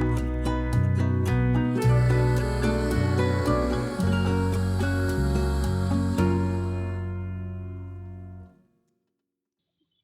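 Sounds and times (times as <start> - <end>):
sustained bass line: 0.0 - 8.5
gentle plucked guitar: 0.0 - 8.6.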